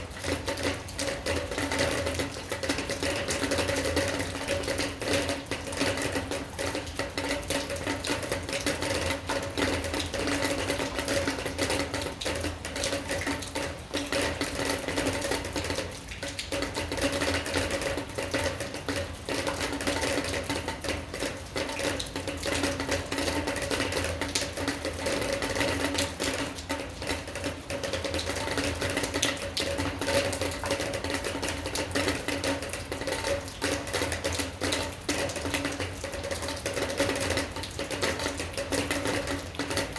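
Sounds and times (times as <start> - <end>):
rain tapping on a hard surface: 0.0 - 39.9.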